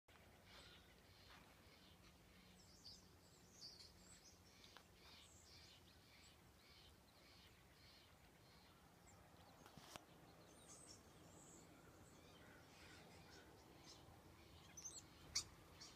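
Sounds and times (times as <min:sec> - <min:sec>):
birds chirping: 0:00.1 - 0:15.9.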